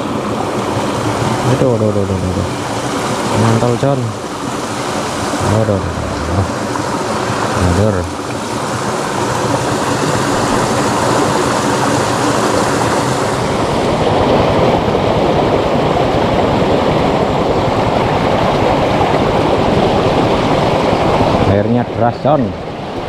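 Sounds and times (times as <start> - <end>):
water rushing through ditch: 0.0 - 21.6.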